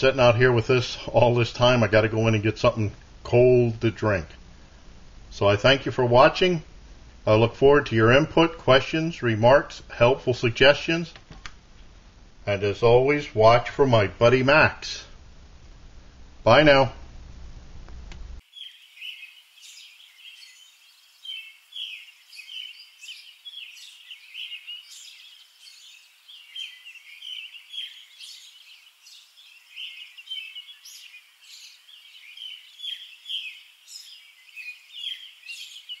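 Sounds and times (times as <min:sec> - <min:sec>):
songbirds chirping: 0:00.0 - 0:15.4, 0:18.4 - 0:36.0.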